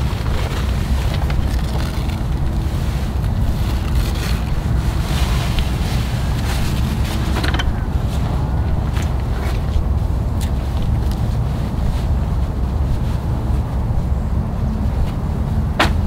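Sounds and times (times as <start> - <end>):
canvas awning rustling: 0.0 - 16.0
wind buffeting microphone: 0.0 - 16.0.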